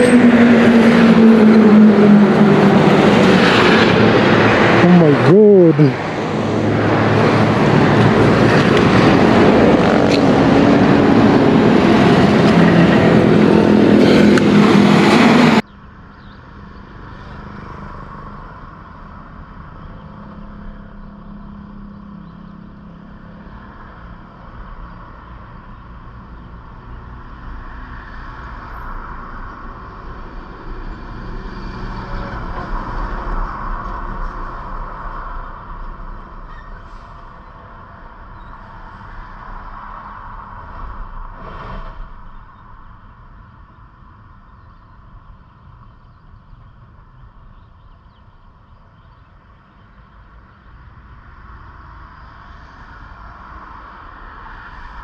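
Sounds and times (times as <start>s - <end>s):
vehicle engine and wind noise: 0.0s - 55.0s.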